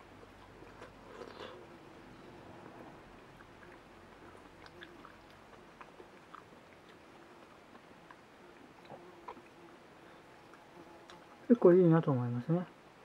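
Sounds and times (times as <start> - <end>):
faint chewing: 0.0 - 11.4.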